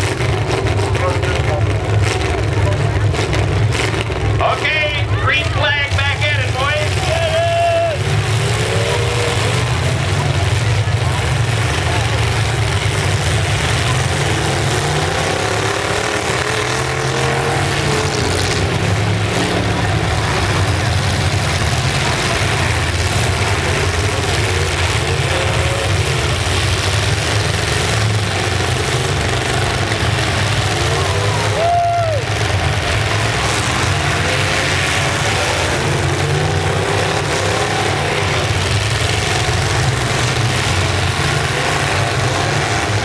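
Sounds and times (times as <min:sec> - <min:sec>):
truck engines revving: 0:00.0 - 0:43.0.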